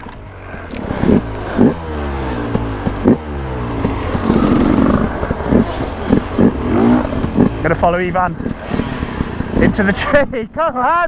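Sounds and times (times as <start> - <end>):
dirt bike engine revving: 0.0 - 10.5.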